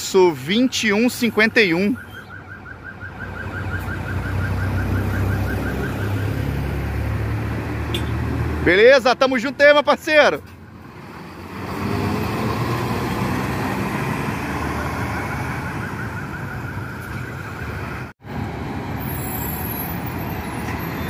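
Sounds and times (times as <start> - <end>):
diesel buses passing: 0.0 - 21.0.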